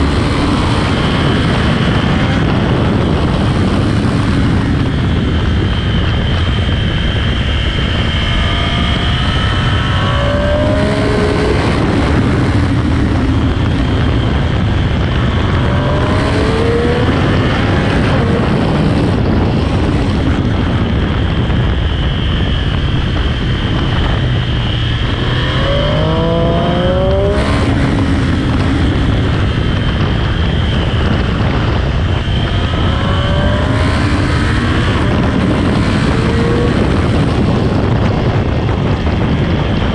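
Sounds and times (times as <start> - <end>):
motorcycle engine revving: 0.0 - 39.9
wind rushing: 0.0 - 39.9.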